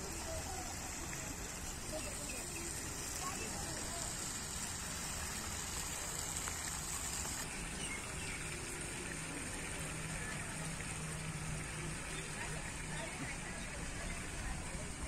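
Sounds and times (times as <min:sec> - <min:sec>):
faint voices: 0:00.0 - 0:06.9, 0:08.7 - 0:15.0
fountain water splashing: 0:00.0 - 0:15.0.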